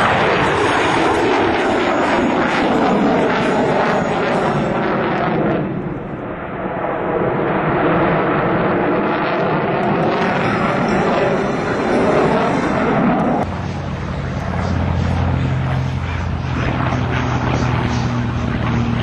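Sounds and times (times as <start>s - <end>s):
fighter jet engine roar: 0.0s - 19.0s.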